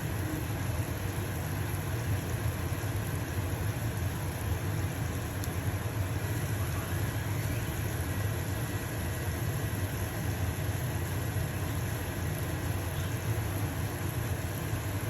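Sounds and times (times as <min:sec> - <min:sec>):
pancake sizzling in frying pan: 0:00.0 - 0:15.0
range hood fan humming: 0:00.0 - 0:15.0.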